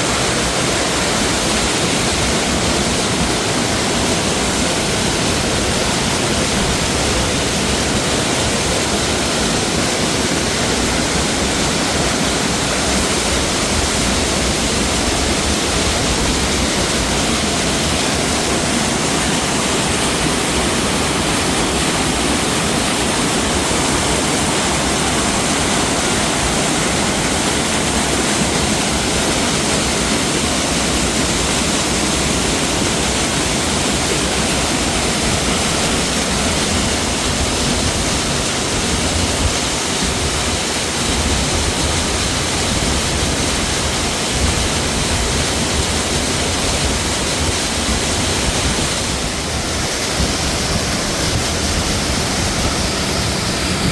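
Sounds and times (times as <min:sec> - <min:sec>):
waterfall rushing over rocks: 0:00.0 - 0:53.9.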